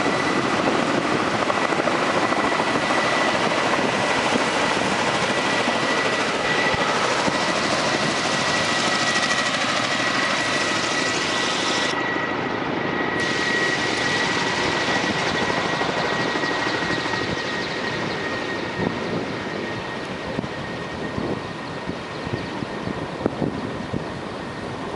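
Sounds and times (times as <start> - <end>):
helicopter rotor and turbine: 0.0 - 24.9.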